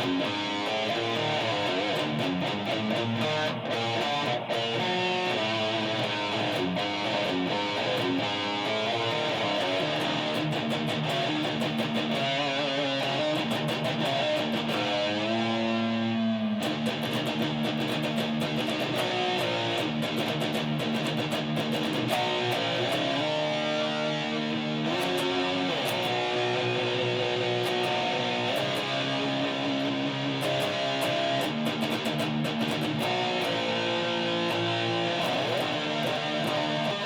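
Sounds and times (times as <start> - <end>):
electric guitar rock riff: 0.0 - 37.0.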